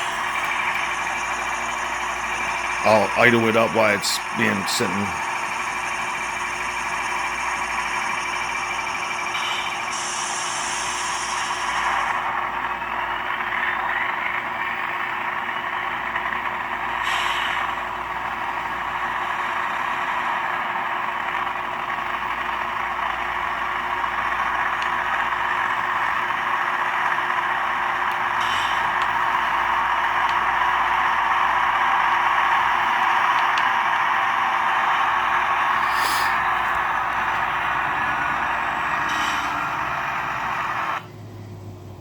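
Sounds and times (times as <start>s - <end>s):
diesel engine through small speaker: 0.0s - 42.0s.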